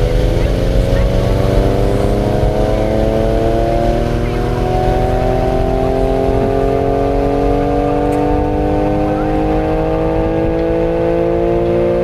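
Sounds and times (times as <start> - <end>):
low rumble: 0.0 - 11.2
air raid siren winding up: 0.0 - 11.8.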